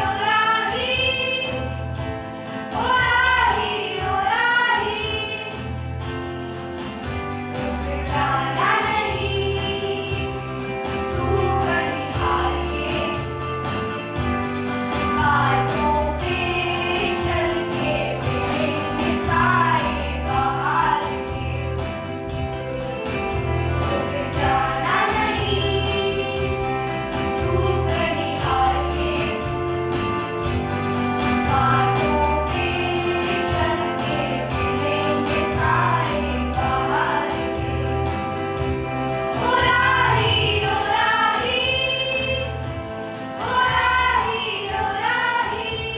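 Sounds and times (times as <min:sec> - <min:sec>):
song with voices singing: 0:00.0 - 0:45.9.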